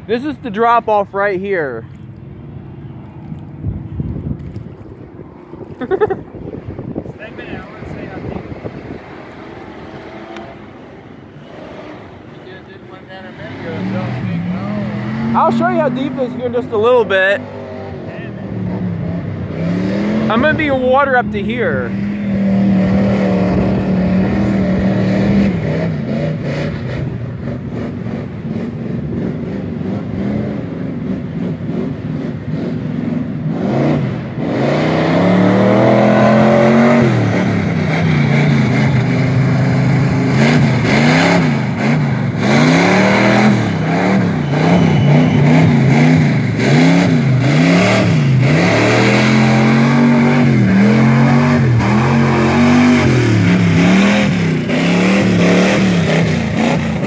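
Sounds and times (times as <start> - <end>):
truck engine revving: 5.2 - 57.0.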